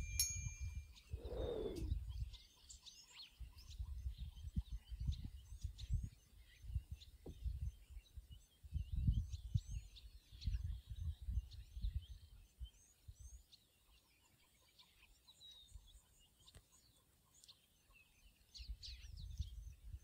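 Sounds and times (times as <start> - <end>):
wild birds chirping: 0.0 - 20.0.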